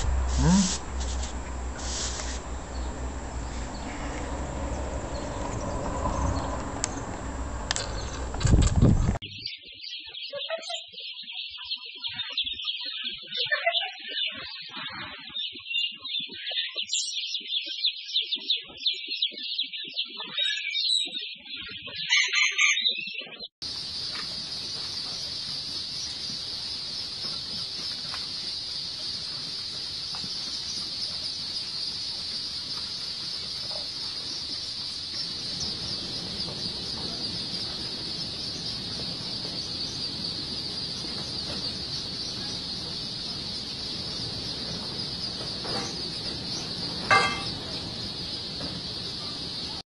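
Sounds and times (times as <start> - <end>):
baby chicks peeping: 0.0 - 7.0, 7.7 - 49.8.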